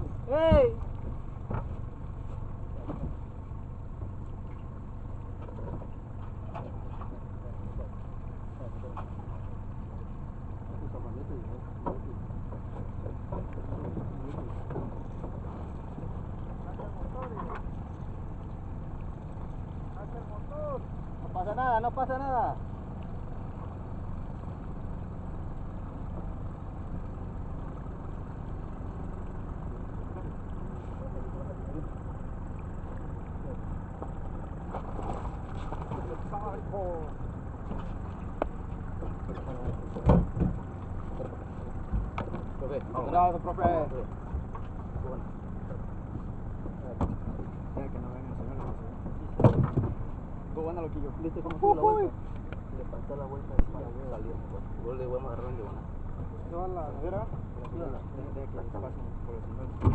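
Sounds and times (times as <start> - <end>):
low rumble: 0.0 - 59.9
water lapping around boat: 0.0 - 59.9.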